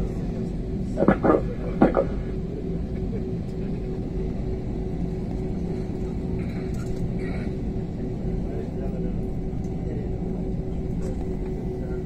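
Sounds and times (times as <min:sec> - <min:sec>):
airliner cabin rumble: 0:00.0 - 0:12.0
jet engine hum: 0:00.0 - 0:12.0.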